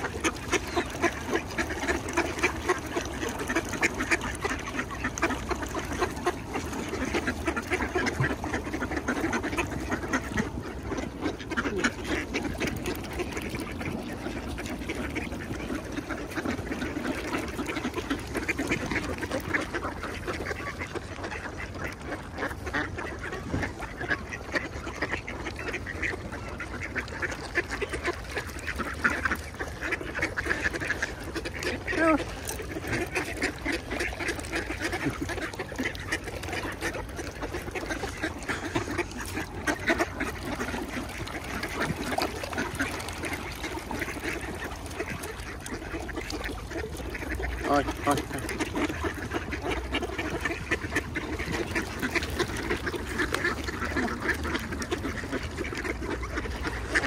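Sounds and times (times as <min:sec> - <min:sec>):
flock of ducks quacking: 0:00.0 - 0:57.0.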